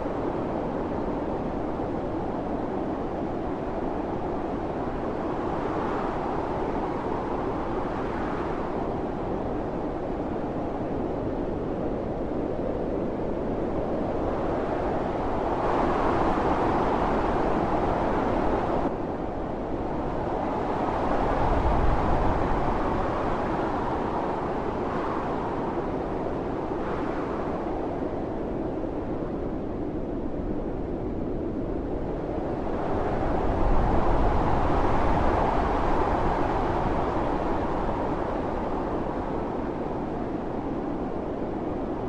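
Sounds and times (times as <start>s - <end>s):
howling blizzard wind: 0.0s - 42.0s.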